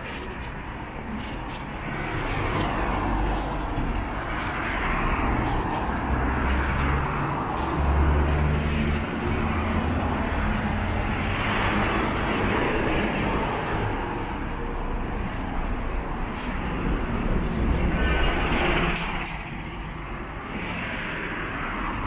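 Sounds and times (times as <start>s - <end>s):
cars and vans passing: 0.0s - 22.0s.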